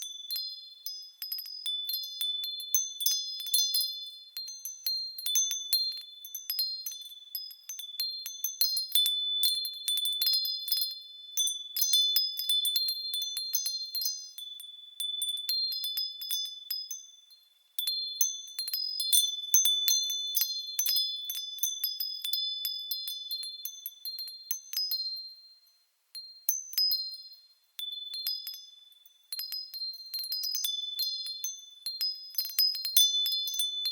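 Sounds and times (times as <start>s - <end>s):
wind chime ringing: 0.0s - 33.9s.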